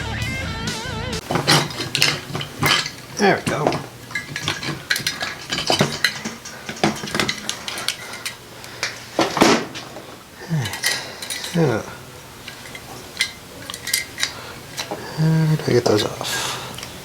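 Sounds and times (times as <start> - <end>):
metal parts clicking and scraping: 1.2 - 17.0.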